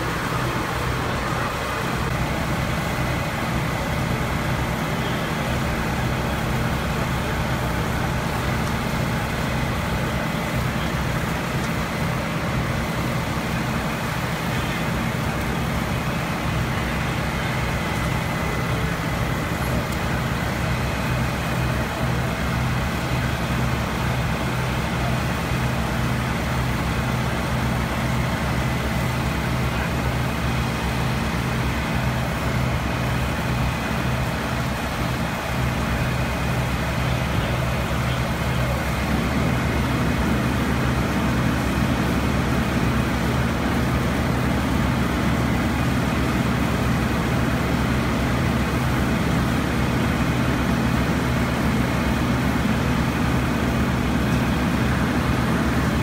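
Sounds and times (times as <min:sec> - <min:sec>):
fire engine engine humming: 0:00.0 - 0:56.0.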